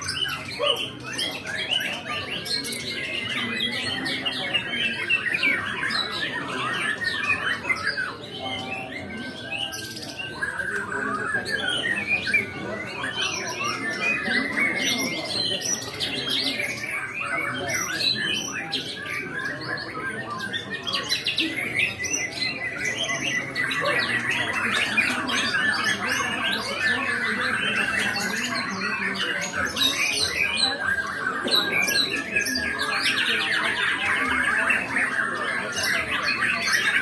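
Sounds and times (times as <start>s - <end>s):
bird song whistles and chatter: 0.0s - 37.0s.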